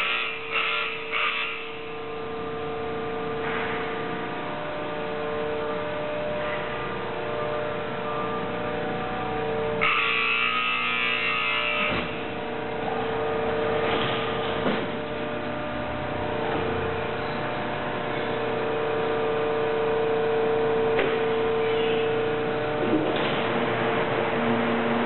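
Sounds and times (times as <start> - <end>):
factory machinery hum: 0.0 - 25.0.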